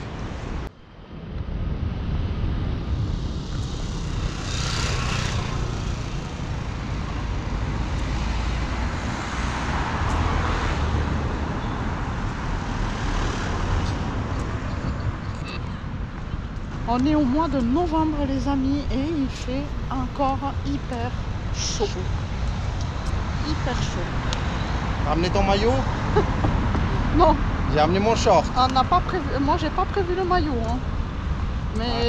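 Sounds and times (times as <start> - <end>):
wind on microphone: 0.0 - 28.0
road traffic: 0.0 - 32.0.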